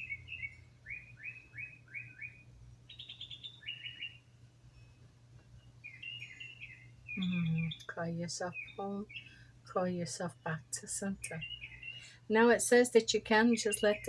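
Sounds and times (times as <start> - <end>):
birds chirping: 0.0 - 14.0
faint low hum: 0.0 - 14.0.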